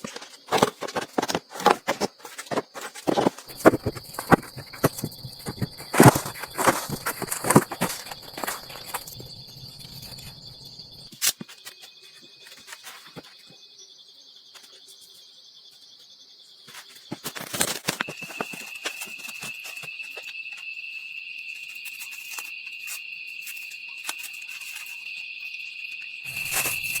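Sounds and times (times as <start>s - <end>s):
insects buzzing: 0.1s - 27.0s.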